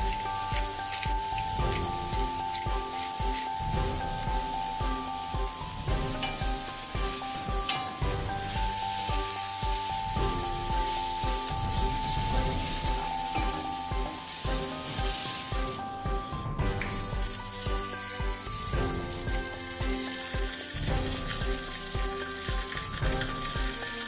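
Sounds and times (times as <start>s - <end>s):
background music: 0.0s - 24.0s
vegetables sizzling in a frying pan: 0.0s - 24.0s.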